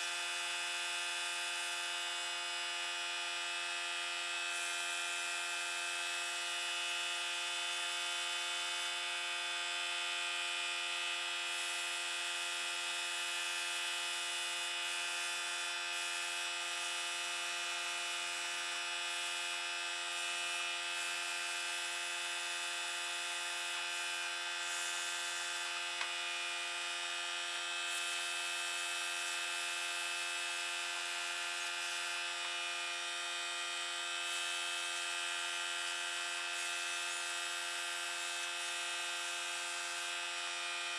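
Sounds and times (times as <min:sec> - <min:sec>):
small electric motor humming: 0:00.0 - 0:40.9.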